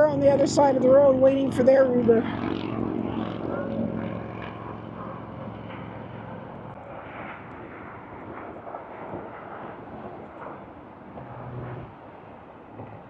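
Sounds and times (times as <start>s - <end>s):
road traffic hiss and rumble: 0.0s - 13.0s.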